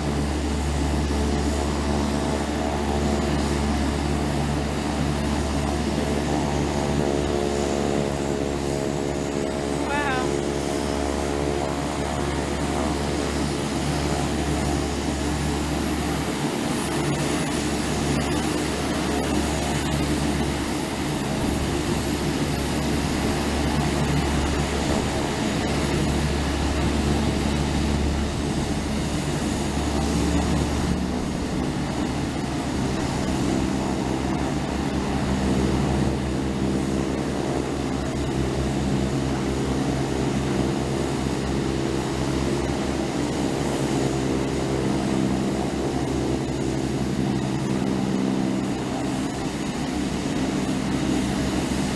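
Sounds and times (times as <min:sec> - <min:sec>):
propeller airplane engine: 0:00.0 - 0:51.9.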